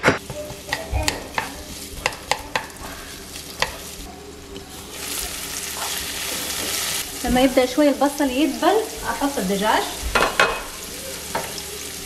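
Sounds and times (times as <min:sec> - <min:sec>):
onion sizzling in frying pan: 0:00.2 - 0:12.0.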